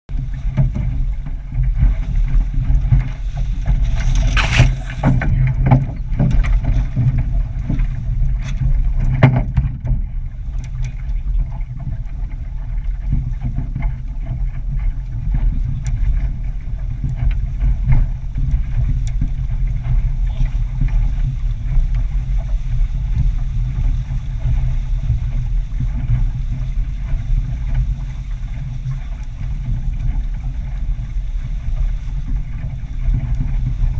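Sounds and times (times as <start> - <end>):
water rushing along hull: 0.1 - 33.9
waves slapping boat: 0.1 - 33.9
wind rumbling on microphone: 0.1 - 33.9.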